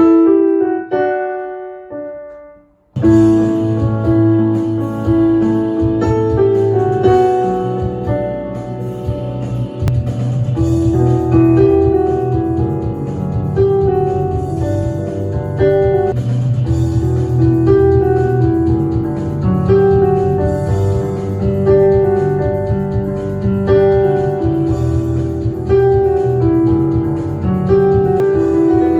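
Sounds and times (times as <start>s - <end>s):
keyboard playing slow chords: 0.0s - 28.9s.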